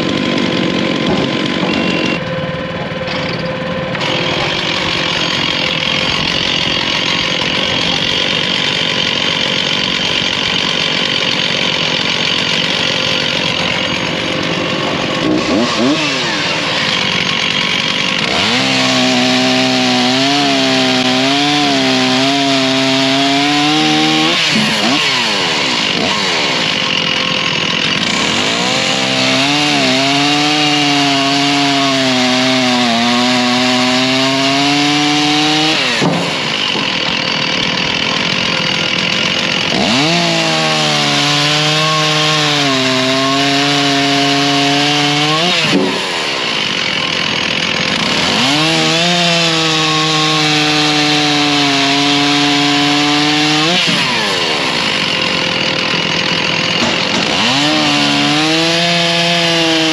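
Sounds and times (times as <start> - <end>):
chainsaw cutting wood: 0.0 - 59.9
chainsaw revving: 0.0 - 59.9.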